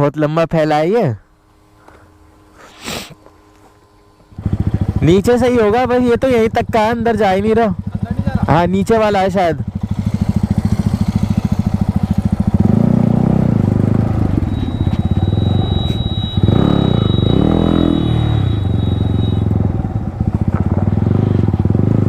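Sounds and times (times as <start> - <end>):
motorcycle engine revving: 4.1 - 22.0.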